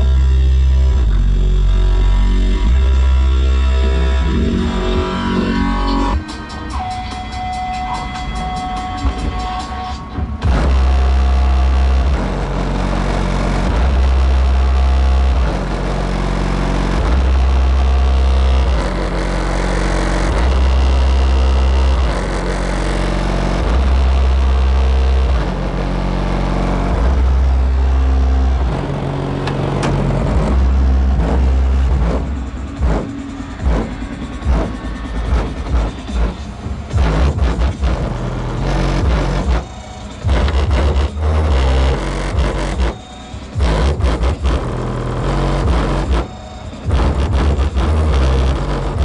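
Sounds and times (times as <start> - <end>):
bass-heavy music: 0.0 - 49.0
deep bass notes from subwoofer: 0.0 - 49.0.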